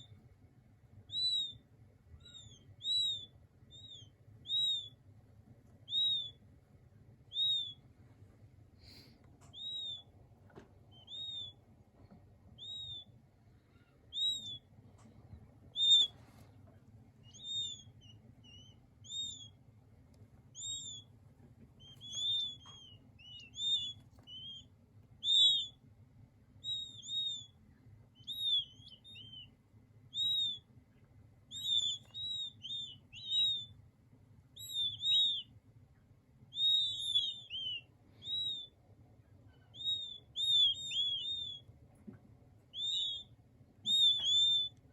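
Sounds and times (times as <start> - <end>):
quail chicks peeping: 0.0 - 44.9.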